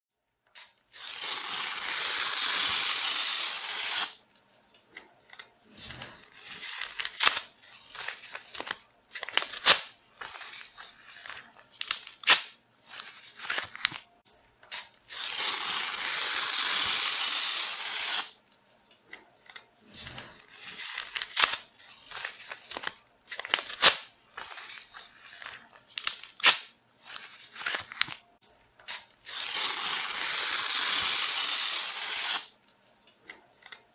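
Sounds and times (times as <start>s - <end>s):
paper tearing: 0.6s - 4.2s, 5.4s - 14.0s, 14.7s - 18.4s, 20.0s - 28.2s, 28.9s - 32.6s.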